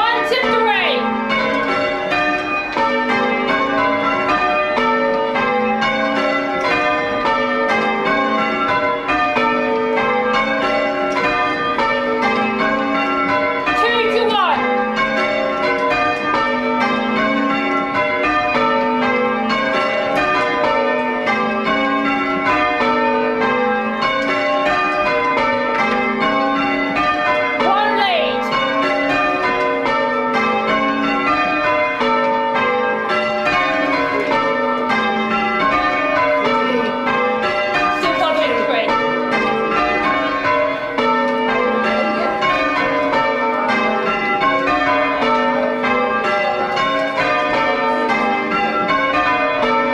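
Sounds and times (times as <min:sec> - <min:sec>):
tower bells ringing: 0:00.0 - 0:49.9.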